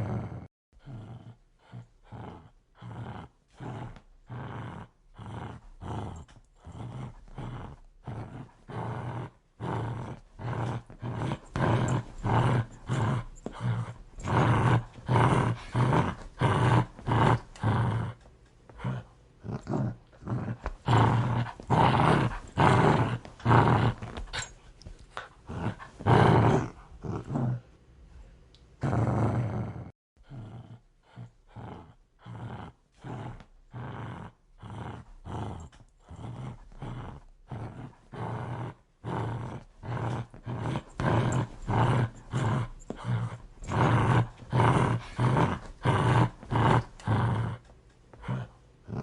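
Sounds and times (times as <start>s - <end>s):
dog growling aggressively: 0.0s - 27.7s, 28.8s - 49.0s.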